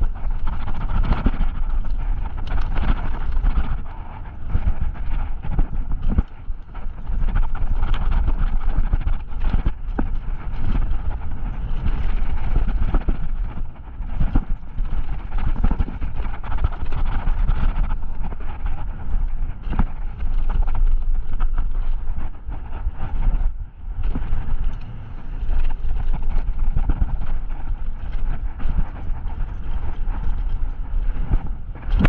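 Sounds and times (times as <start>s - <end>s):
bike tyres rolling on dirt: 0.0s - 32.0s
wind on microphone: 0.0s - 32.0s.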